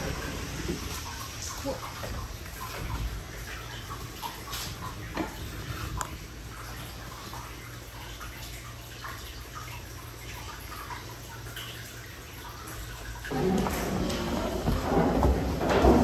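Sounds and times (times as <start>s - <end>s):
water trickling into bathtub: 0.0s - 16.0s.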